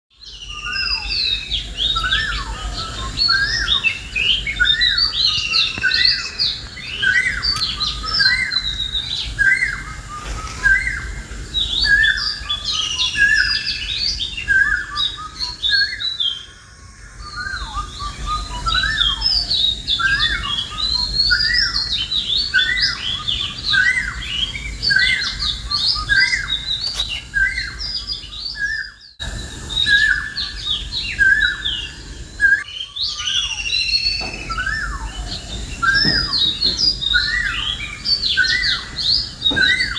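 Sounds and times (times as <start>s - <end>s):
birds chirping chorus: 0.1s - 39.9s.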